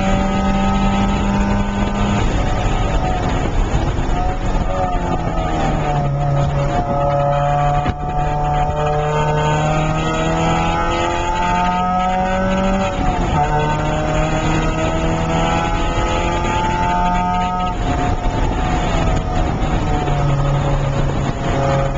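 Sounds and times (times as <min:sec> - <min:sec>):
car engine revving in cabin: 0:00.0 - 0:21.9
wind and road noise: 0:00.0 - 0:21.9.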